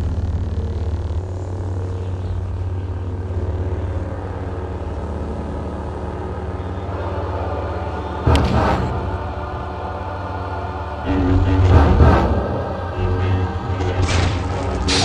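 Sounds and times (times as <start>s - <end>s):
lightsaber hum: 0.0s - 15.0s.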